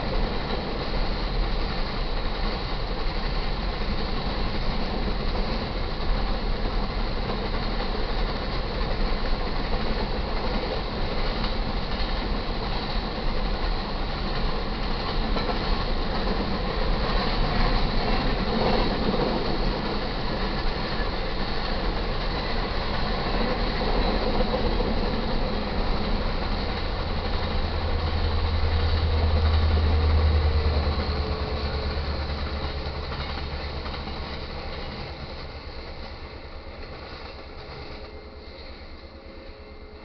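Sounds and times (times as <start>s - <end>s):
locomotive engine drone: 0.0s - 40.0s
train wheels rumbling and clattering: 0.0s - 40.0s.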